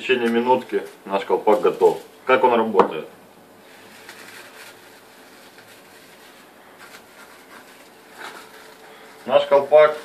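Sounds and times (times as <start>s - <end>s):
aluminium foil crinkling: 0.0s - 2.4s, 3.6s - 10.0s.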